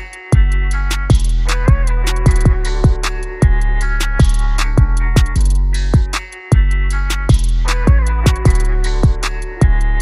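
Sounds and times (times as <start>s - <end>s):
plucked guitar notes: 0.0s - 10.0s
trap instrumental beat: 0.0s - 10.0s.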